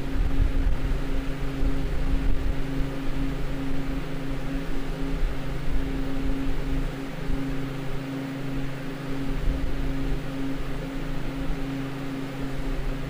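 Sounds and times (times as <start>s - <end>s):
evaporator fan whoosh: 0.0s - 13.0s.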